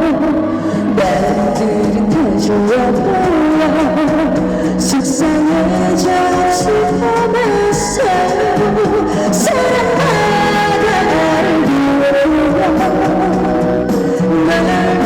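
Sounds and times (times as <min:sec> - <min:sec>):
woman singing with vibrato: 0:00.0 - 0:15.0
instrumental accompaniment with beat: 0:01.0 - 0:15.0.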